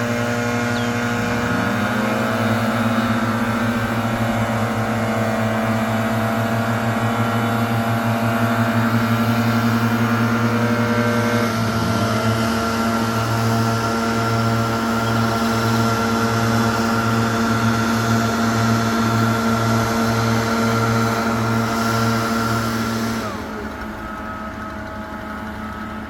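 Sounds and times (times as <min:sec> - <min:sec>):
leaf blower running: 0:00.0 - 0:26.0.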